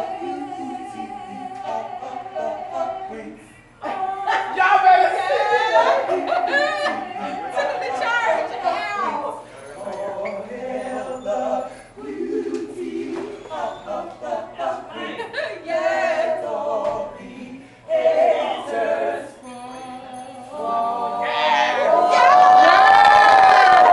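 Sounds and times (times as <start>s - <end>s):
group of voices singing: 0.0s - 23.9s.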